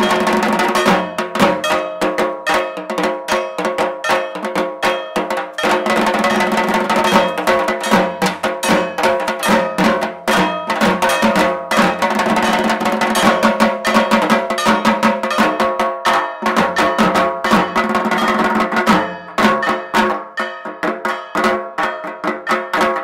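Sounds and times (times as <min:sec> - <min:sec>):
metallic clanging: 0:00.0 - 0:22.8
rapid drumming: 0:00.0 - 0:23.0.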